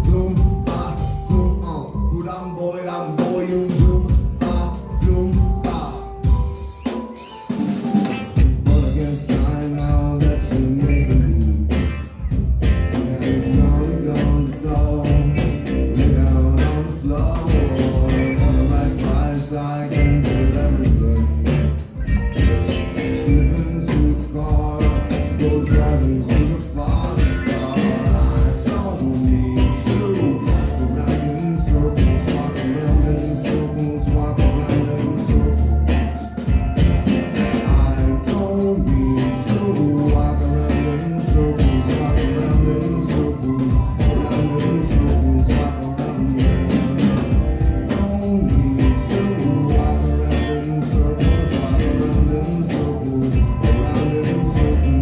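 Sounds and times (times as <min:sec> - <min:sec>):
rock band playing live: 0:00.0 - 0:01.8, 0:02.7 - 0:55.0.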